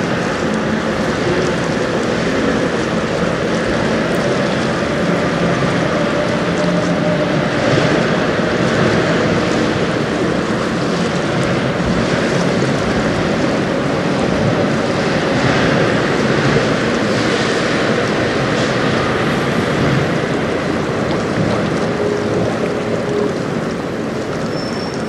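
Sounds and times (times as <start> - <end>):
faint low hum of a ship: 0.0 - 25.0
river water rushing: 0.0 - 25.0
wind: 0.0 - 25.0.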